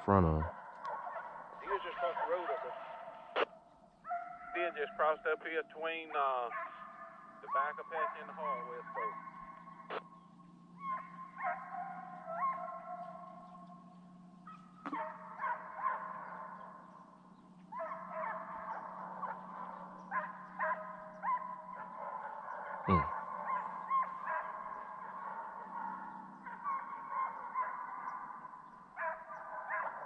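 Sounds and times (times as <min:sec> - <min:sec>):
hounds baying: 0:00.0 - 0:30.0.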